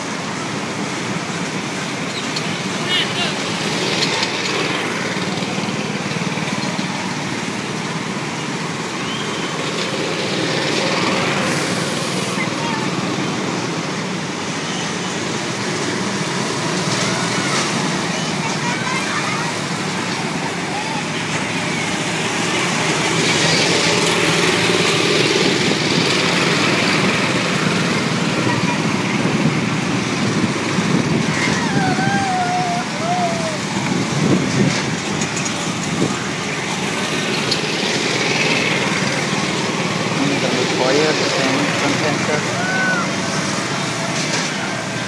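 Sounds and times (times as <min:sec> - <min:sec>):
go-kart engines running: 0:00.0 - 0:45.0.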